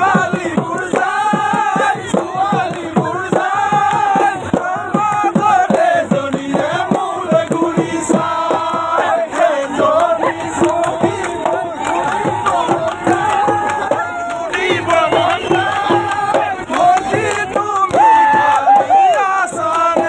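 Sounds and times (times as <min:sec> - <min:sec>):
men singing and chanting: 0:00.0 - 0:20.0.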